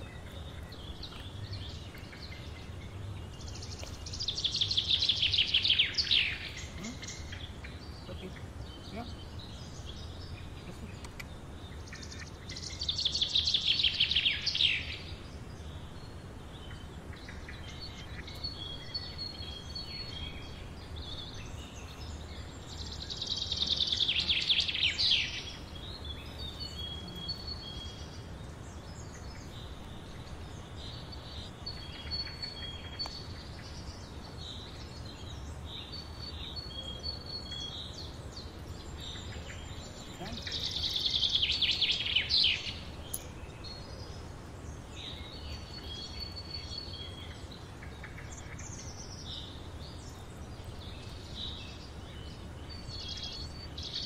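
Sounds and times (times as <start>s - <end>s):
low steady background rumble: 0.0s - 54.0s.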